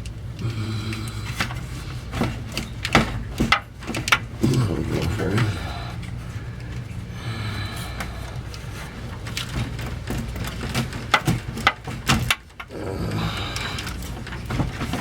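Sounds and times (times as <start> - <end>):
clicks and knocks of hand work: 0.0 - 7.0, 7.9 - 15.0
steady low hum: 0.0 - 15.0.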